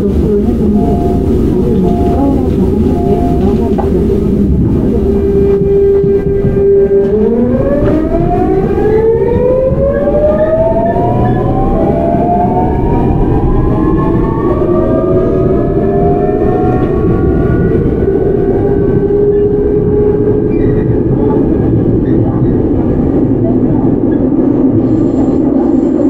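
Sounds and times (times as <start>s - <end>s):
train rumbling on rails: 0.0s - 26.0s
train traction inverter whining: 0.0s - 26.0s.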